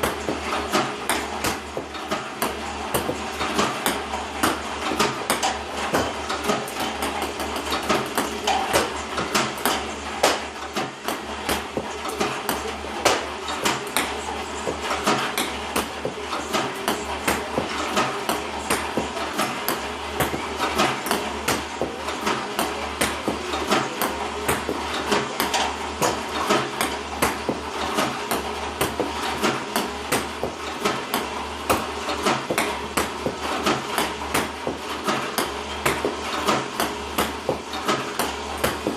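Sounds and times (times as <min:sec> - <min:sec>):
rapid clatter of clicks and knocks: 0:00.0 - 0:38.9.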